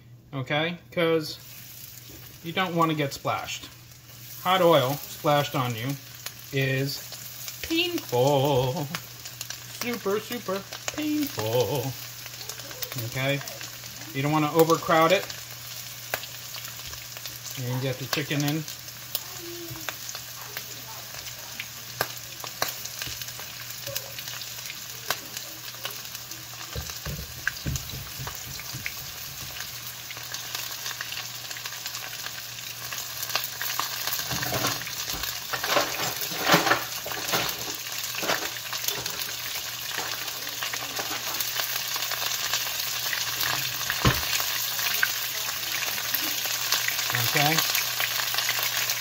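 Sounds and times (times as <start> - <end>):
chicken sizzling in hot oil: 1.2 - 49.0.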